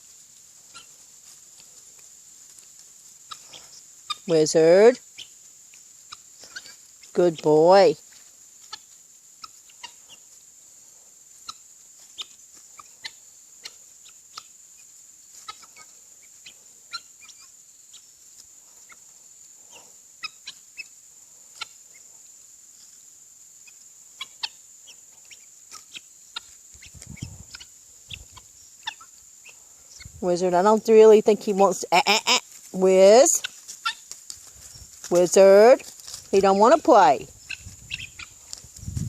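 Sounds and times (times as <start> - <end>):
fowl clucking and peeping: 0.0 - 30.8, 31.4 - 38.7.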